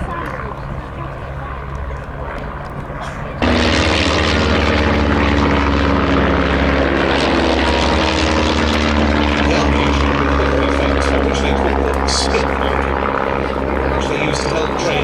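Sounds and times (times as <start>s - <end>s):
propeller plane engine flypast: 0.0s - 15.0s.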